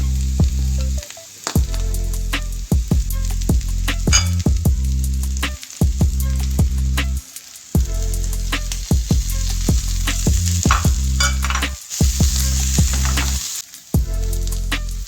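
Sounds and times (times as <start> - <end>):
food sizzling in a frying pan: 0.0 - 15.0
music with heavy bass: 0.0 - 15.0.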